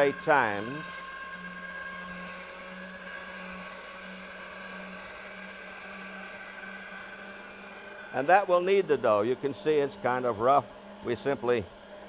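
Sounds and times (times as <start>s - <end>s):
pasta machine motor whirring: 0.0s - 12.0s.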